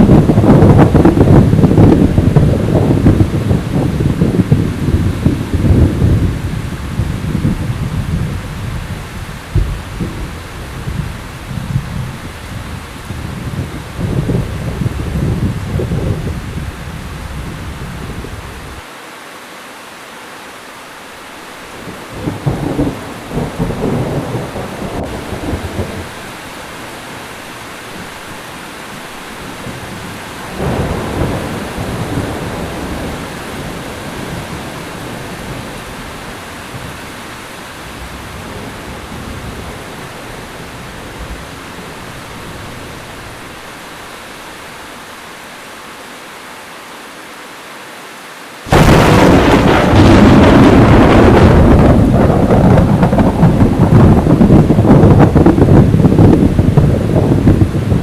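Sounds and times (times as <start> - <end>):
thunder rumbling: 0.0 - 18.8, 21.6 - 44.6, 48.7 - 58.0
heavy rain falling: 0.0 - 58.0.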